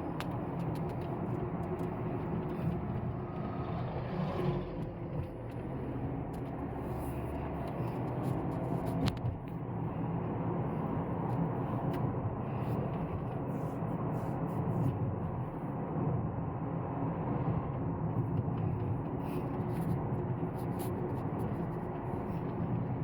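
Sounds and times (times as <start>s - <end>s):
road and tyre noise: 0.0s - 23.0s.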